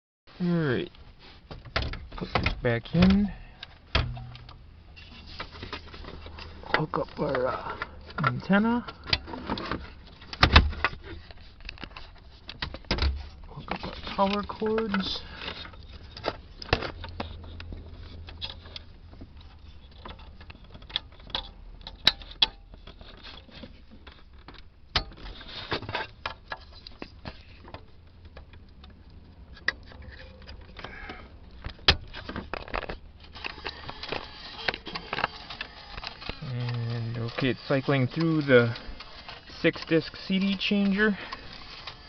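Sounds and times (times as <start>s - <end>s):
clicks and taps handling radio: 5.4s - 42.0s.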